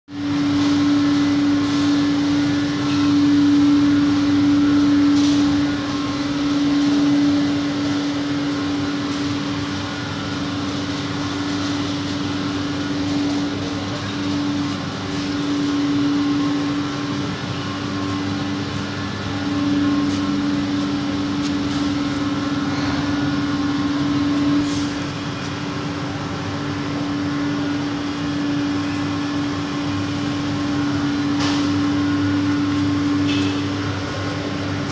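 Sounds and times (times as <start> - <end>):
factory machinery humming: 0.1 - 34.9.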